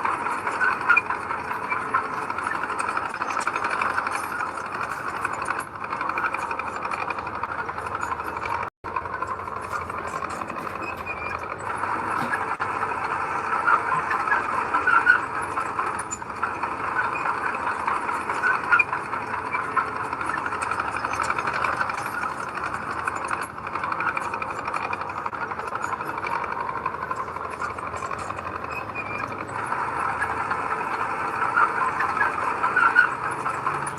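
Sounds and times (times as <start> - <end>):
earthmoving machine engine clattering: 0.0 - 33.9.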